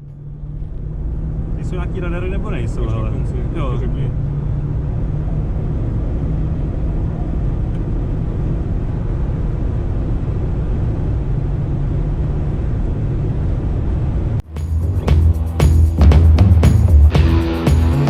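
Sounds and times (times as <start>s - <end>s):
car cabin road drone: 0.0s - 18.0s.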